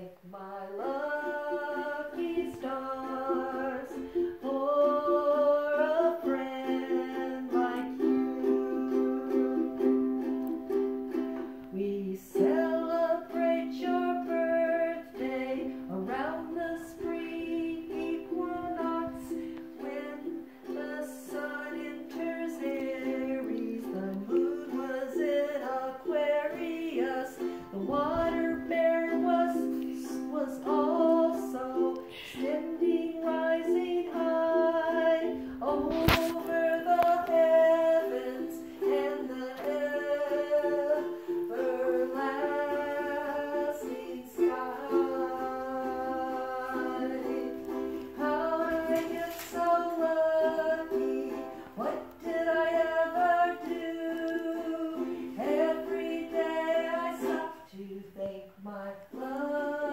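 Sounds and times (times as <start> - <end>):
ukulele: 0.0 - 59.9
woman singing: 0.0 - 59.9.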